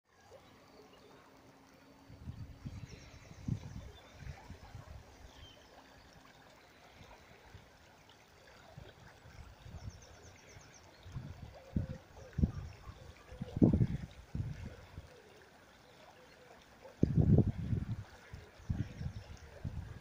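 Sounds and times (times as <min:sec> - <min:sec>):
river flowing: 0:00.1 - 0:20.0.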